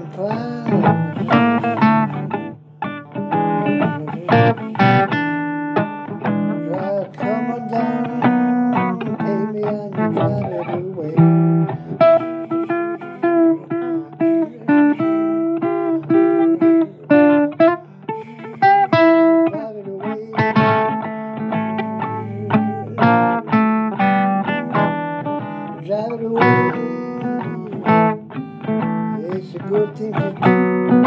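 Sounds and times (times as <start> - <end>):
plucked blues guitar notes: 0.0 - 31.0.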